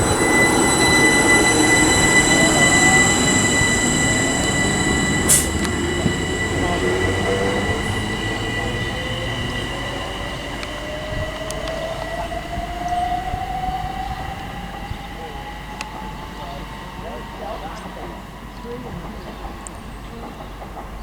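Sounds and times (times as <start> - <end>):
high-pitched whines: 0.0 - 21.0
train rumbling past: 0.0 - 21.0.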